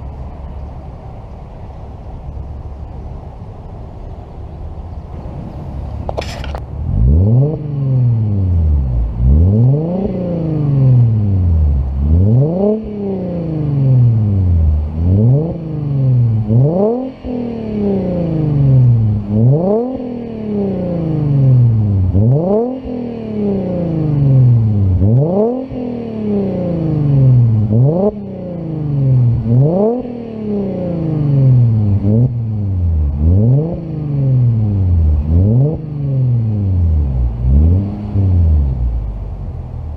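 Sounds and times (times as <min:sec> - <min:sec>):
car engine revving: 0:04.9 - 0:39.9.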